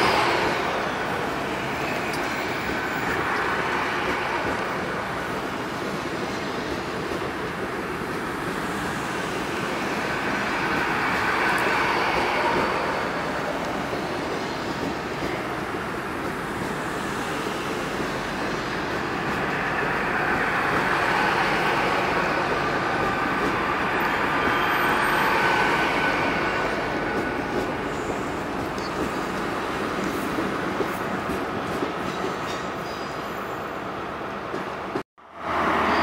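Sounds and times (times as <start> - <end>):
thin train whine: 0.0 - 34.5
train wheels rumbling on rail: 0.0 - 36.0.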